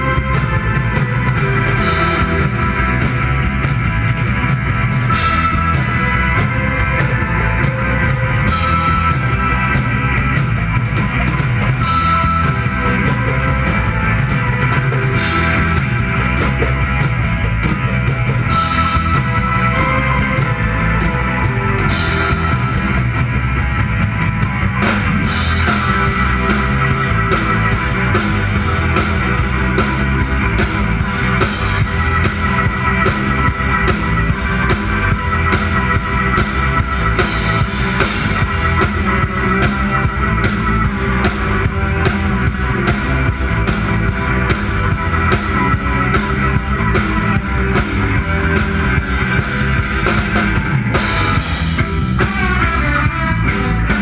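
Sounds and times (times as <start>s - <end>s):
drums and cymbals: 0.0s - 54.0s
rock band playing live: 0.0s - 54.0s.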